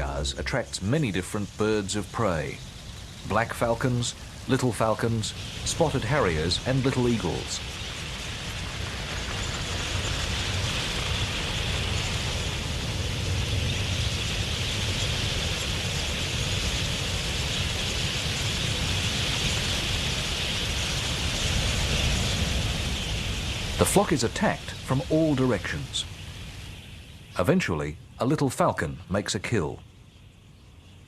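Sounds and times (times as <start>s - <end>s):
flock of budgerigars wings and calls: 0.0s - 29.7s.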